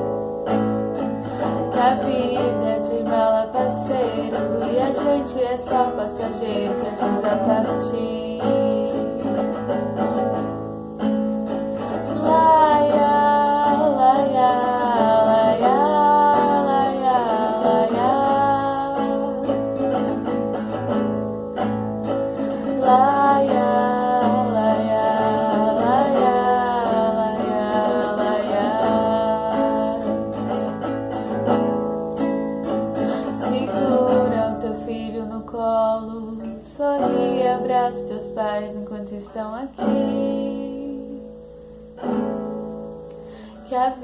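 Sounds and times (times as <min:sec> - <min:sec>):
acoustic guitar chords: 0:00.0 - 0:44.0
person singing: 0:01.0 - 0:10.5, 0:11.5 - 0:20.9, 0:22.0 - 0:31.6, 0:32.6 - 0:41.4, 0:43.4 - 0:44.0.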